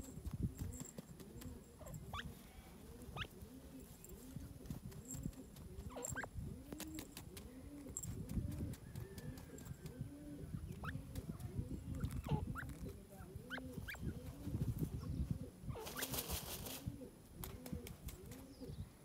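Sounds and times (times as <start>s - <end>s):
soft low bird calls: 0.0s - 16.2s.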